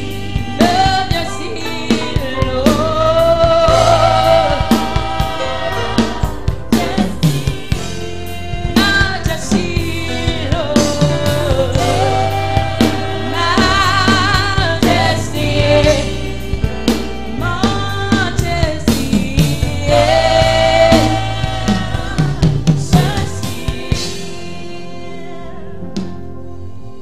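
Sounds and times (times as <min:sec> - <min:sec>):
band with drums and bass: 0:00.0 - 0:24.6
woman singing with vibrato: 0:00.0 - 0:25.6
group of singers: 0:00.0 - 0:26.3.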